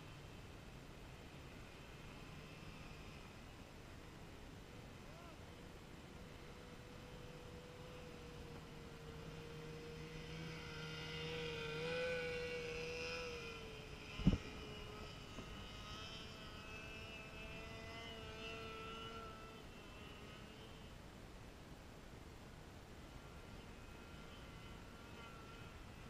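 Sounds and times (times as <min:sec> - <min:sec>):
distant snowmobile engine whine: 0:00.0 - 0:26.0.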